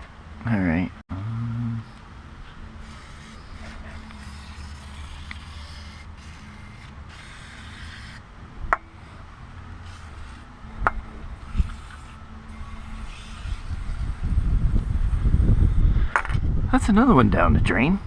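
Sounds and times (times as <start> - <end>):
low steady hum: 0.0 - 16.7.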